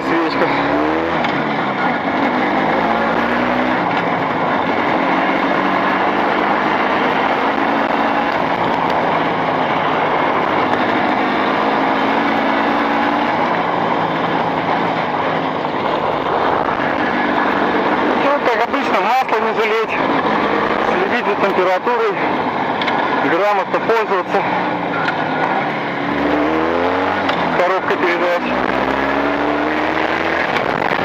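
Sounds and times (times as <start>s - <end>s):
two-stroke motorcycle engine running: 0.0s - 31.0s.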